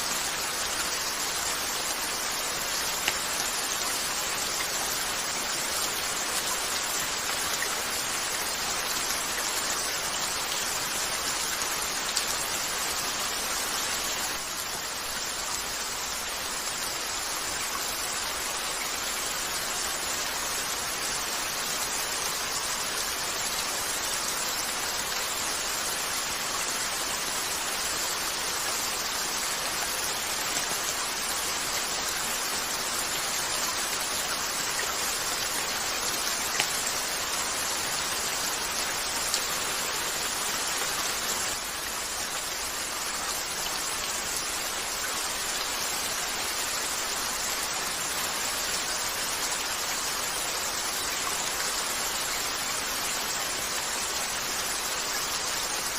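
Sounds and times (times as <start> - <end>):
rain on a window: 0.0 - 55.9.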